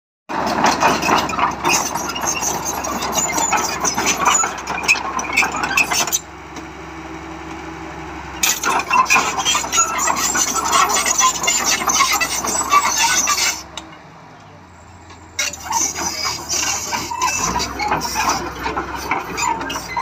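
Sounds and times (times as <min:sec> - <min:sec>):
steel tracks clanking: 0:00.3 - 0:06.6, 0:08.4 - 0:20.0
diesel engine running: 0:00.3 - 0:20.0.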